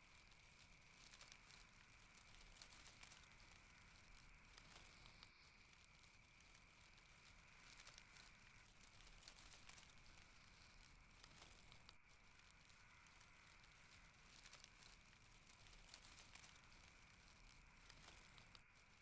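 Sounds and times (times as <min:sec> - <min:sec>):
faint hiss: 0:00.0 - 0:19.0
soft ticks: 0:00.1 - 0:19.0.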